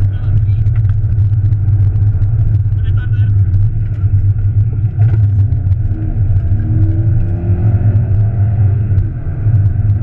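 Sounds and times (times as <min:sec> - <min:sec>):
car engine accelerating: 0:00.0 - 0:10.0
road noise rumble: 0:00.0 - 0:10.0.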